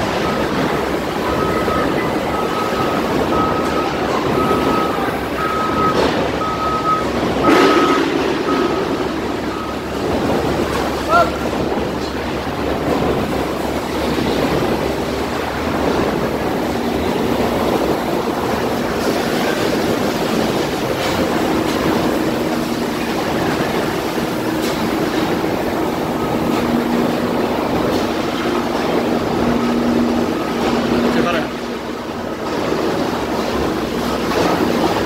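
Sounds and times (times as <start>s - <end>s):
factory machinery din: 0.0s - 35.0s.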